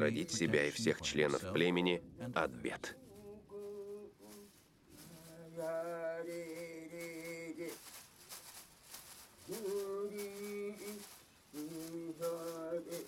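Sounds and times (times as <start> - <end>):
person chanting held notes: 0.0 - 13.0.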